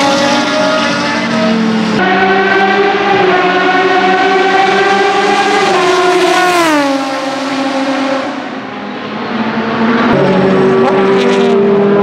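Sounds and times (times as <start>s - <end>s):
race car engine passing by: 0.0s - 12.0s.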